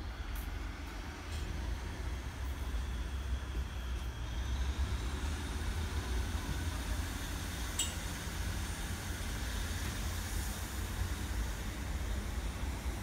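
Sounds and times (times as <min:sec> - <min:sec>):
train diesel engines rumbling: 0:00.0 - 0:13.0.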